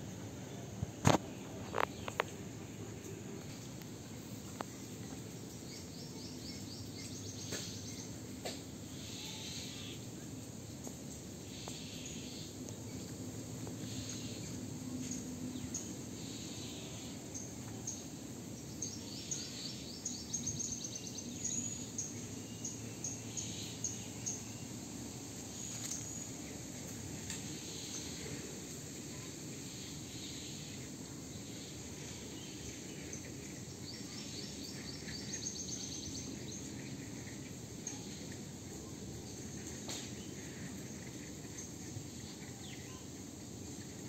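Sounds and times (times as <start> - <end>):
low background hiss: 0.0 - 44.0.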